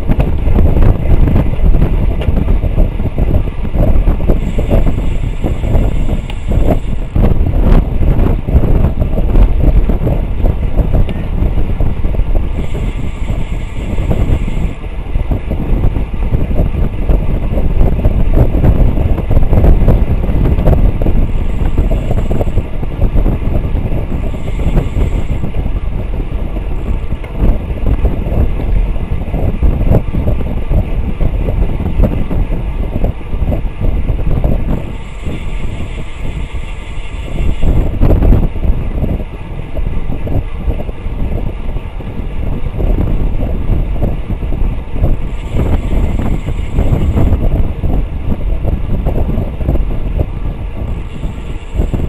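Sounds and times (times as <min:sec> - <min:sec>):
gusty wind on microphone: 0:00.0 - 0:52.0
road and tyre rumble: 0:00.0 - 0:52.0.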